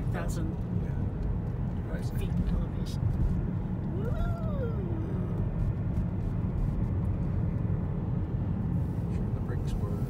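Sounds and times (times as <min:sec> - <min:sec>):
road and engine rumble in car: 0:00.0 - 0:10.0.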